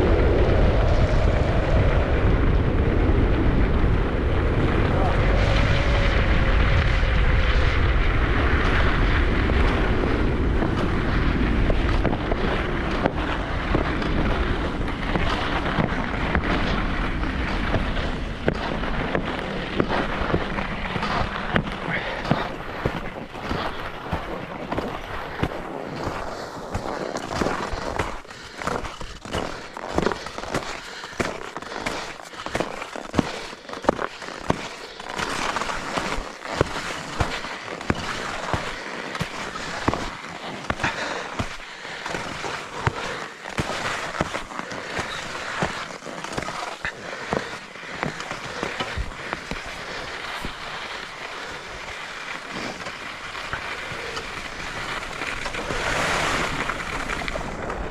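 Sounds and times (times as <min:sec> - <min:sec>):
skis clattering: 0:04.4 - 0:57.9
skis scraping hiss on snow: 0:04.8 - 0:57.9.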